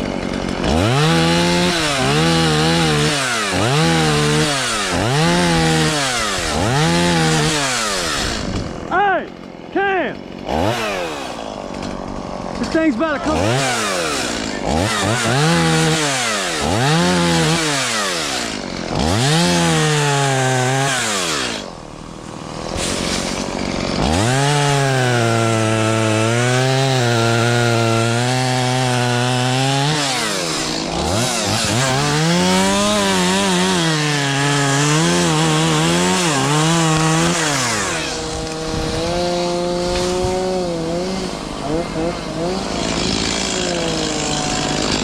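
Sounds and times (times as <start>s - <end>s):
small engine revving: 0.0s - 8.9s, 10.4s - 21.8s, 22.4s - 45.0s.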